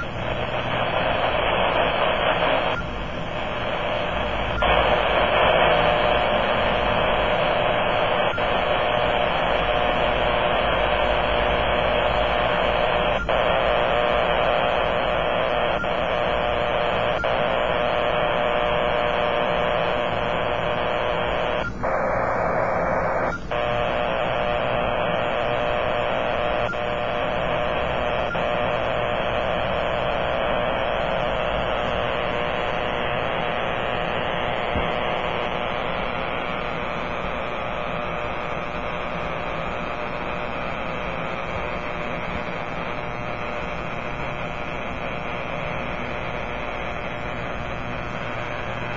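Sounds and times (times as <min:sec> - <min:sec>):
harsh radio static: 0:00.0 - 0:48.9.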